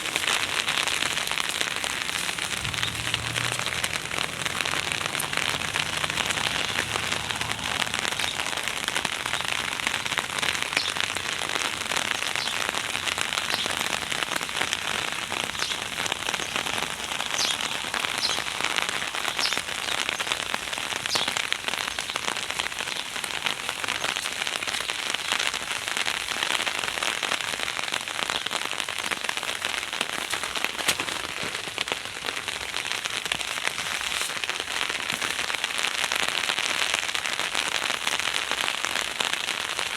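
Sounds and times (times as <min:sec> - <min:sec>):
heavy rain pouring: 0:00.0 - 0:39.9
raindrops ticking on hard surfaces: 0:00.0 - 0:39.9.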